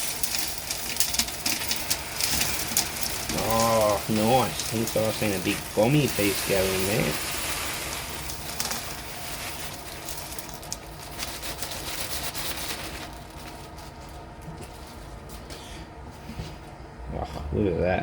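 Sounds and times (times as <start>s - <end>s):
gravel rattling in a sieve: 0.0s - 15.5s.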